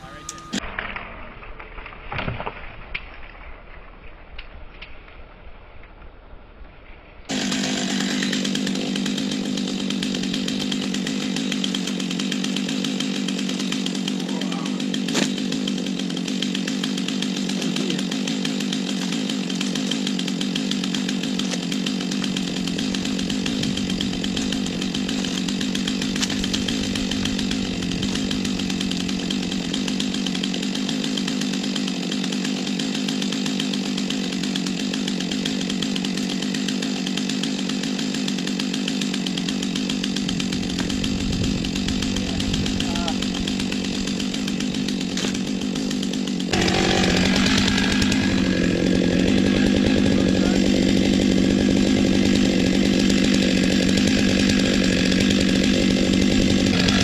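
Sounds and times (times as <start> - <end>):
chainsaw cutting wood: 0.0 - 0.7, 7.3 - 57.0.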